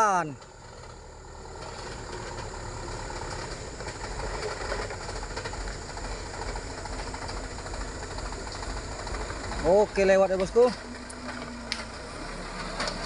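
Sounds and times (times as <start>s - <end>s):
truck engine low rumble: 0.0s - 13.0s
truck rattling: 0.0s - 13.0s.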